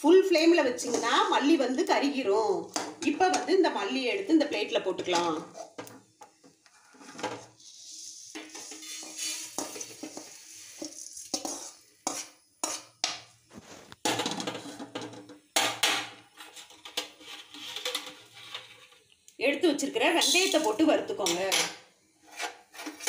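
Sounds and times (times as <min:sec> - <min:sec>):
spoon scraping metal pan: 0:00.2 - 0:03.8, 0:04.5 - 0:06.0, 0:06.6 - 0:19.0, 0:20.1 - 0:23.0.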